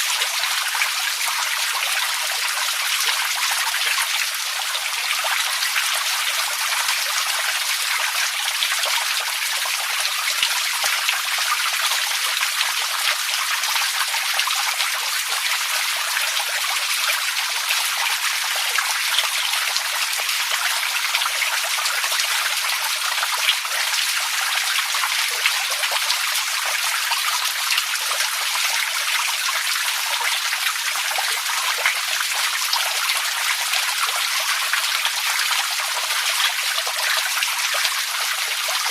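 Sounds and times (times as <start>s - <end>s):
running and splashing water: 0.0s - 38.9s.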